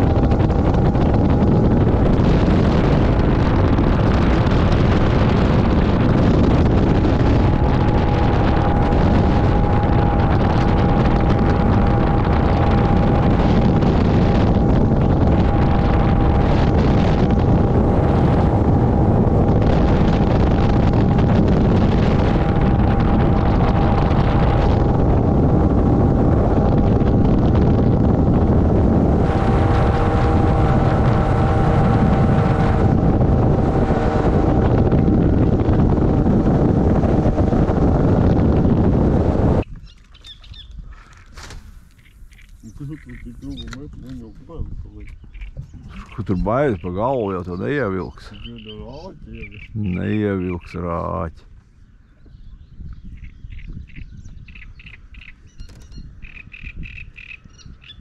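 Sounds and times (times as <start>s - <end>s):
motorboat engine droning: 0.0s - 39.6s, 41.6s - 51.3s
wind buffeting microphone: 0.0s - 58.0s.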